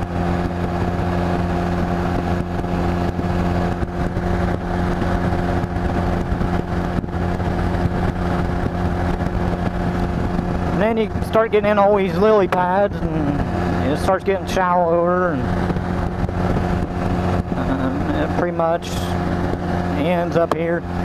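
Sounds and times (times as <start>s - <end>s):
motorcycle engine cruising: 0.0s - 21.0s
road noise: 0.0s - 21.0s.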